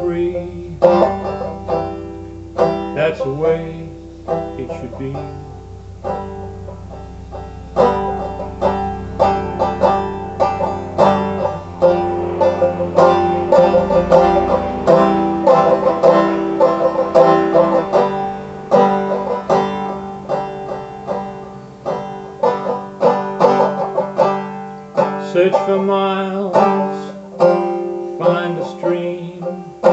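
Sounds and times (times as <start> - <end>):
banjo playing: 0.0 - 29.9.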